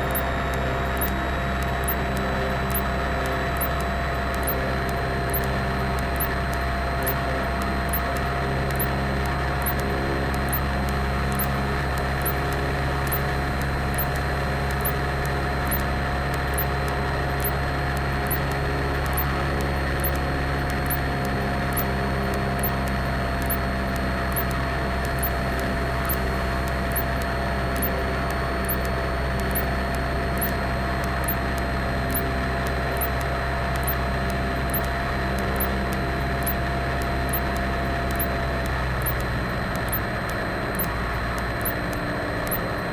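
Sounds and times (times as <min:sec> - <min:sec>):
high-pitched whine: 0:00.0 - 0:42.9
propeller plane engine droning: 0:00.0 - 0:42.9.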